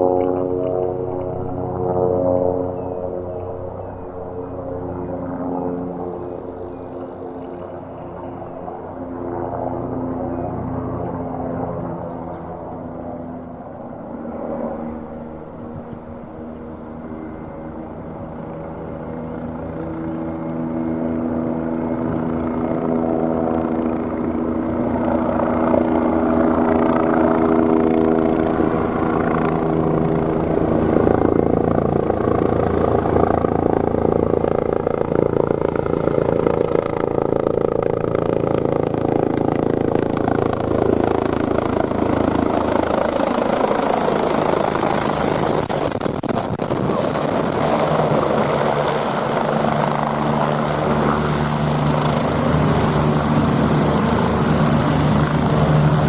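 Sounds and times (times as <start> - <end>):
helicopter rotor and engine: 0.0 - 56.0
high turbine whine: 0.0 - 56.0.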